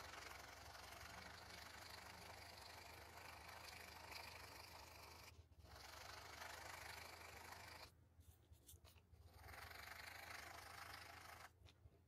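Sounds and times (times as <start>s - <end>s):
ballpoint pen scratching on paper: 0.0s - 11.8s.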